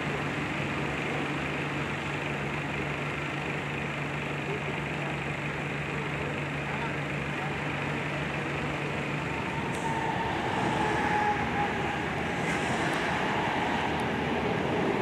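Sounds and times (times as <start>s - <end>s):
engine idling hum: 0.0s - 15.0s
road traffic rumble: 0.0s - 15.0s.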